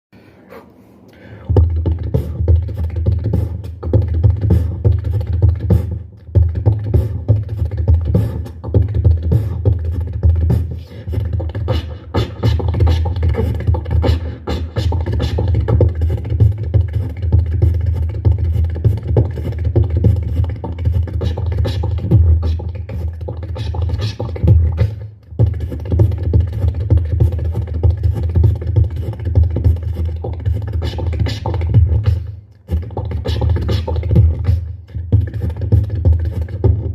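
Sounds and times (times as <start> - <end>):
beatboxing mouth clicks: 0.5 - 36.9.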